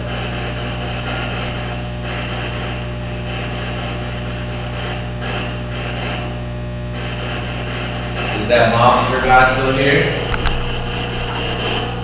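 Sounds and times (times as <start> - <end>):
hissing static: 0.0 - 12.0
low electrical hum: 0.0 - 12.0.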